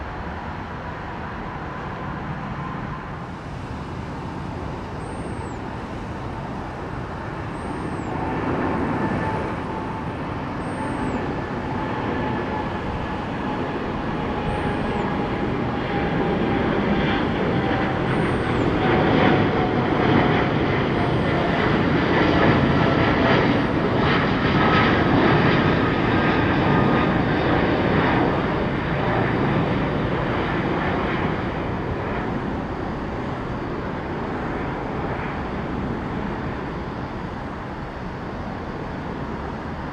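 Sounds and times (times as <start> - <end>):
jet engine whine: 0.0 - 39.9
jet engines roaring: 0.0 - 39.9.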